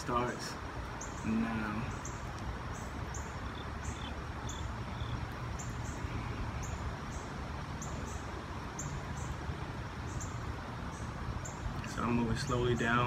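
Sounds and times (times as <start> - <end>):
insects chirping: 0.9 - 11.7.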